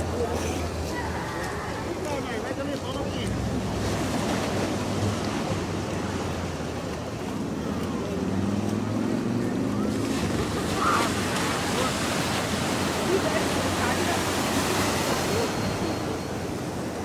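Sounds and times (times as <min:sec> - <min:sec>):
surf washing: 0:00.0 - 0:17.0.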